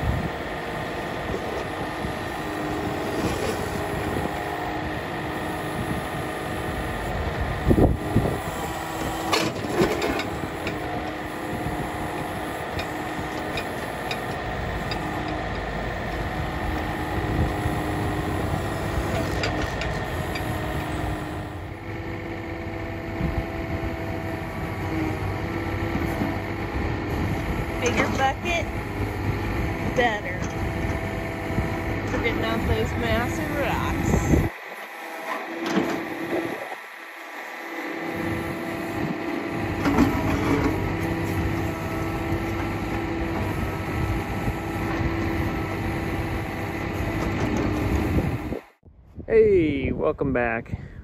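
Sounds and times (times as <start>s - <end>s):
diesel engine running: 0.0s - 48.8s.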